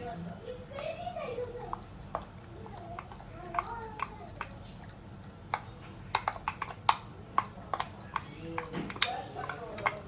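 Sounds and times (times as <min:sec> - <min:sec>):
kitchen utensils clinking: 0:00.0 - 0:10.0.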